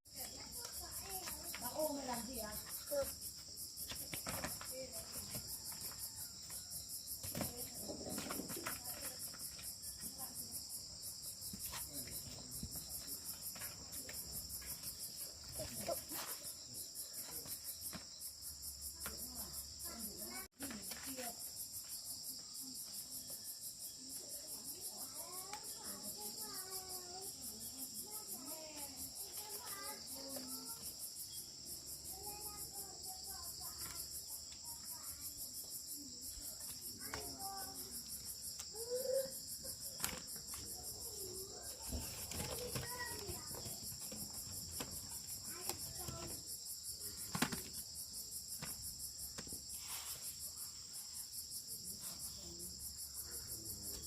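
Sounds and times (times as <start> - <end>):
insects trilling: 0.1 - 54.0.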